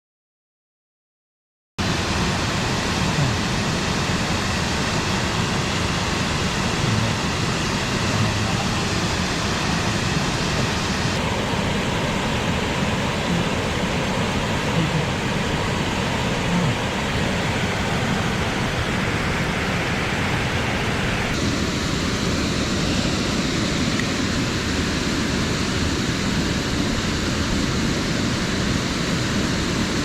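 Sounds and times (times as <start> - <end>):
stream rushing over rocks: 1.8 - 30.0.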